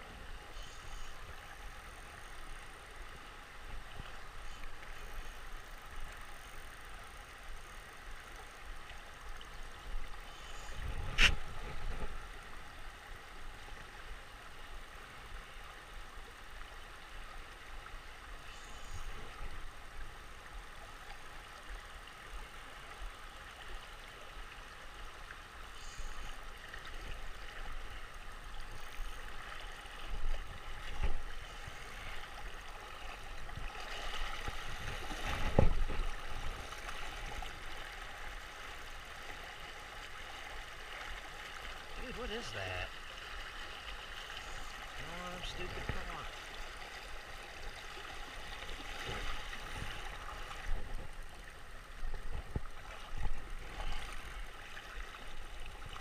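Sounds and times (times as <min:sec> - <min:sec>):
river water rushing and gurgling: 0:00.0 - 0:56.0.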